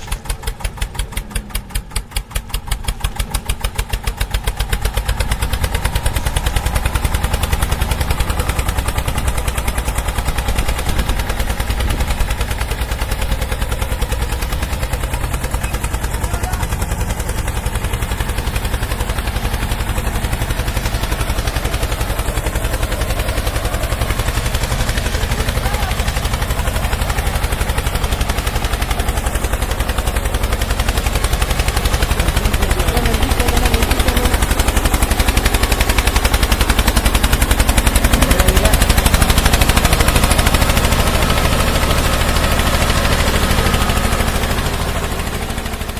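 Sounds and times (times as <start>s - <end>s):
small engine popping exhaust: 0.0s - 45.9s.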